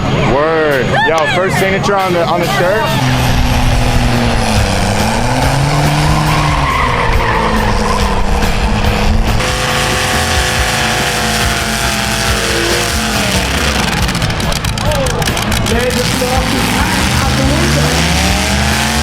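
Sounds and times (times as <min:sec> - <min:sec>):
diesel truck engine revving: 0:01.8 - 0:19.0
spinning tyres hissing: 0:02.8 - 0:19.0.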